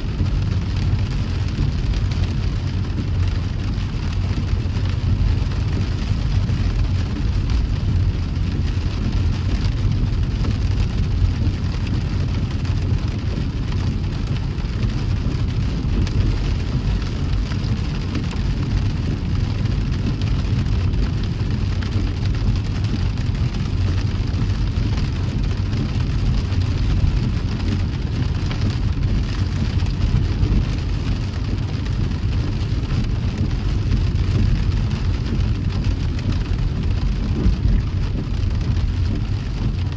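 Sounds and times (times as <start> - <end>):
car rumbling on road: 0.0 - 39.9
hiss of rain and wet road: 0.0 - 39.9.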